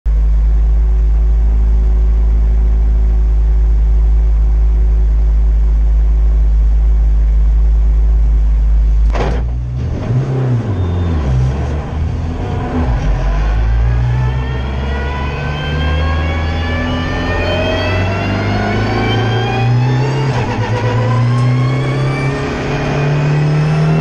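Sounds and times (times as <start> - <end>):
race car engine: 0.1 - 24.0.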